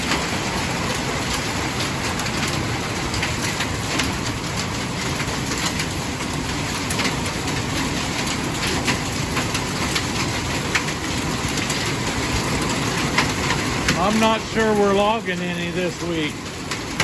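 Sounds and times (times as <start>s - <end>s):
hailstones tapping: 0.0s - 17.0s
heavy rain pouring: 0.0s - 17.0s.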